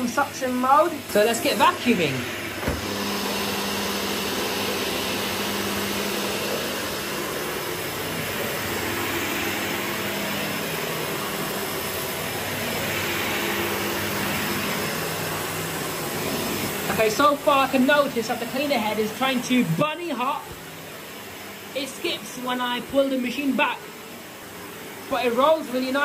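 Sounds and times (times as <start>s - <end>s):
vacuum cleaner on carpet: 0.0s - 26.0s.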